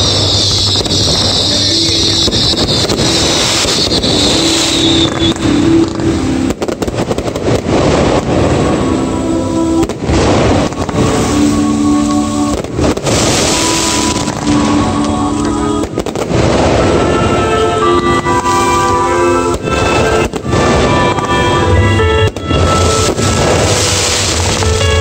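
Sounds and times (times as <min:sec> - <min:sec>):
fireworks rushing hiss: 0:00.0 - 0:17.3, 0:18.2 - 0:25.0
fireworks bangs: 0:00.0 - 0:25.0
loud music: 0:00.0 - 0:25.0.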